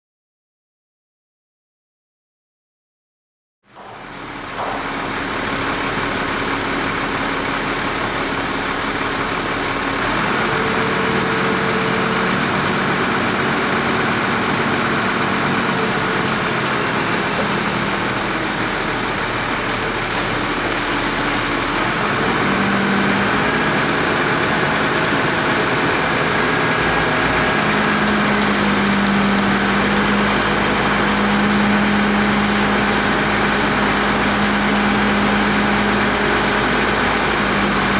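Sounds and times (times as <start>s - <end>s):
crane engine running: 3.7s - 37.9s.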